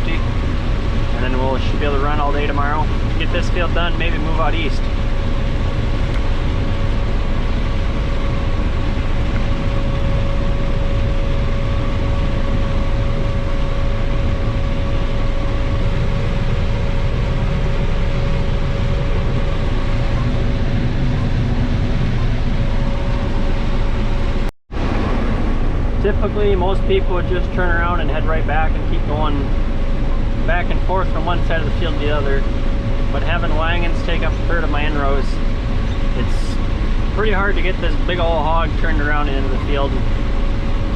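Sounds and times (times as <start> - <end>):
combine harvester rumble: 0.0 - 40.9
steady machine whine: 0.0 - 40.9.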